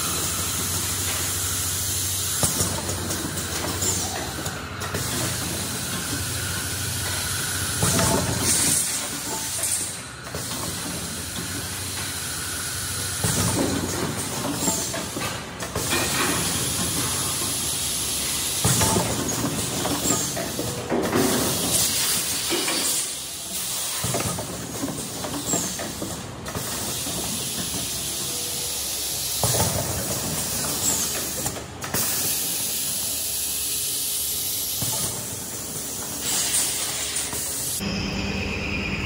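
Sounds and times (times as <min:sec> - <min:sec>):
filling machine running: 0:00.0 - 0:39.0.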